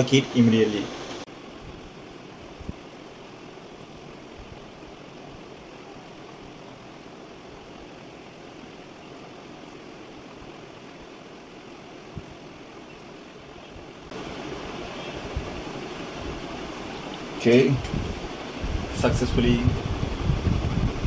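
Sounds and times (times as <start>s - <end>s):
background hiss: 0.0s - 21.0s
faint high whine: 0.0s - 21.0s.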